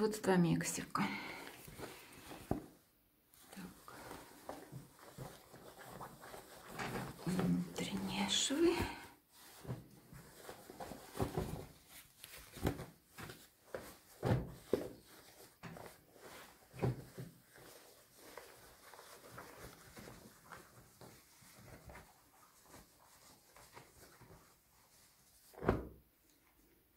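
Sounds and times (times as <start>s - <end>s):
fabric rustling: 0.9s - 26.9s.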